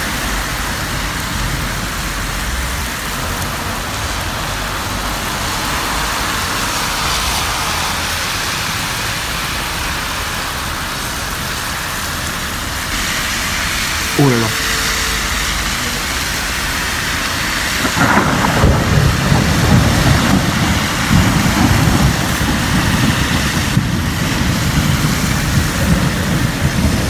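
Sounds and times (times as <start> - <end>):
car tyres swishing on wet road: 0.0 - 27.0
heavy rain hissing: 0.0 - 27.0.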